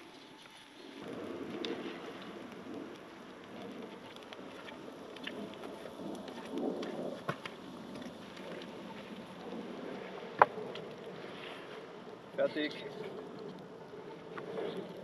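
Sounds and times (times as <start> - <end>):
food hissing and crackling over campfire: 0.0 - 15.0.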